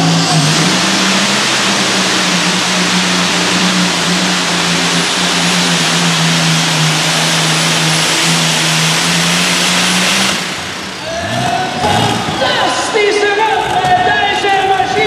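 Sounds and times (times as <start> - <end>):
tractor engine running flat out: 0.0 - 15.0.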